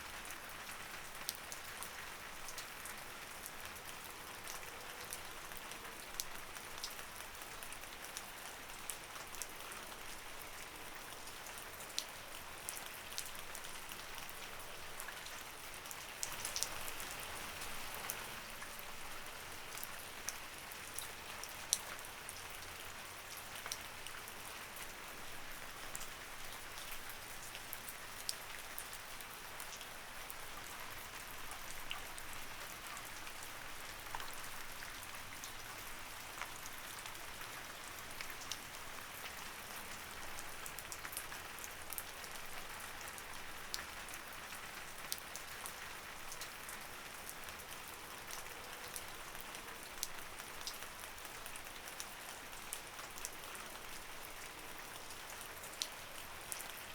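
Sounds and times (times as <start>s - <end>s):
light rain pattering: 0.0s - 56.9s.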